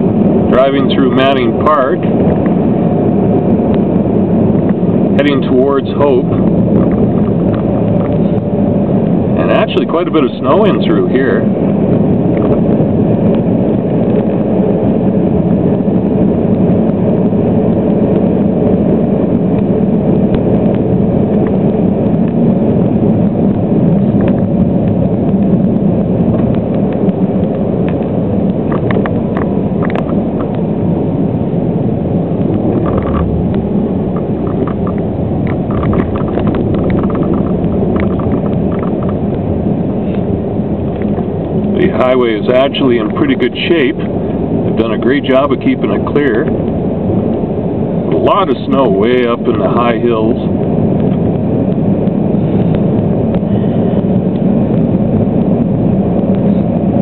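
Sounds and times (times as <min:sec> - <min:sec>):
car driving rumble: 0:00.0 - 0:57.0.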